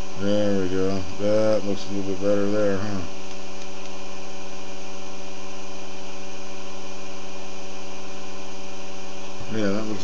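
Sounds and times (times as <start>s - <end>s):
pulse motor humming: 0.0s - 10.0s.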